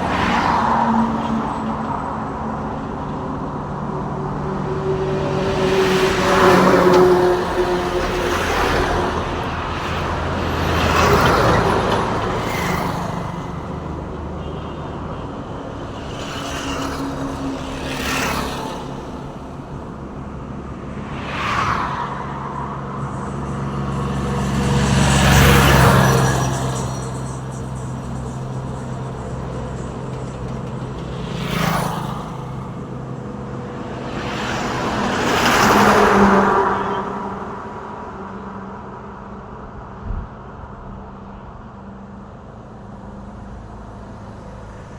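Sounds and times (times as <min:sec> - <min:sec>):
heavy engines droning: 0:00.0 - 0:39.9
vehicles passing with tyre noise: 0:00.0 - 0:44.9.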